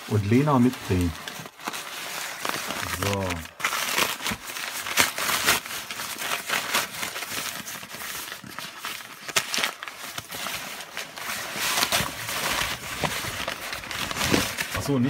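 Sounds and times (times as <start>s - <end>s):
packing paper crinkling: 0.0s - 15.0s.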